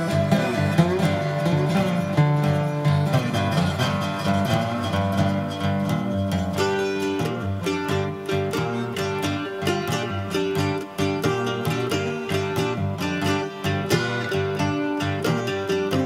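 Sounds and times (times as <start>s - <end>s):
plucked acoustic guitar tune: 0.0s - 16.0s.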